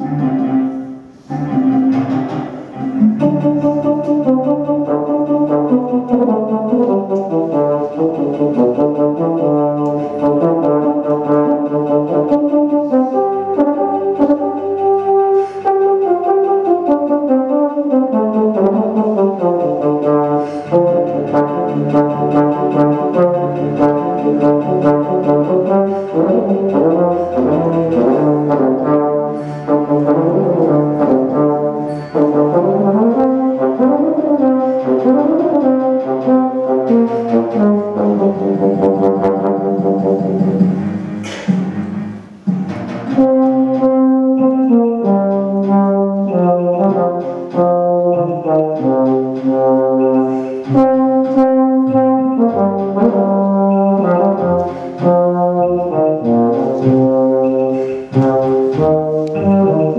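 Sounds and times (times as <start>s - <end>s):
euphonium solo: 0.0s - 40.2s, 43.0s - 59.9s
low held accompaniment notes: 0.0s - 59.9s.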